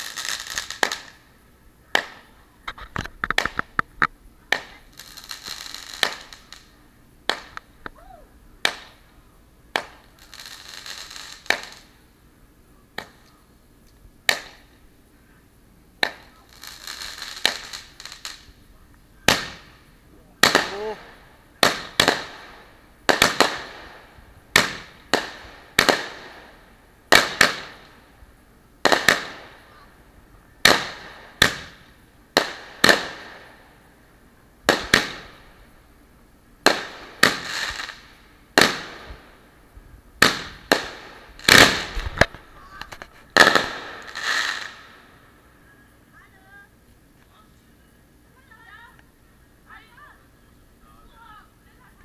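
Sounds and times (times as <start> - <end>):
fireworks bursting with sharp bangs: 0.0 - 52.0.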